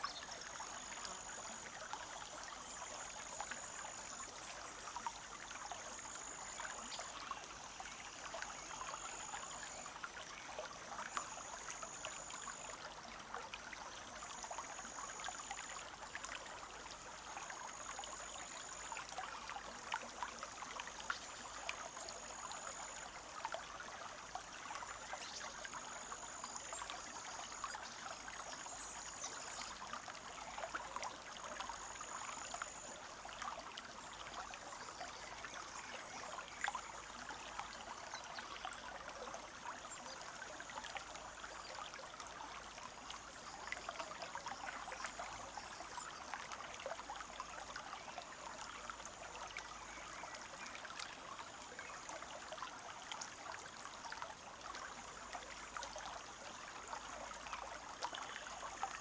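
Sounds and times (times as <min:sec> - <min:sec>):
stream running and trickling: 0:00.0 - 0:59.0.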